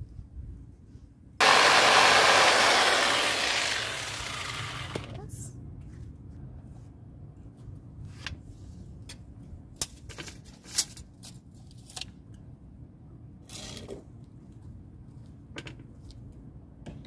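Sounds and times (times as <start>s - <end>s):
low steady background rumble: 0.0s - 1.4s, 3.8s - 17.0s.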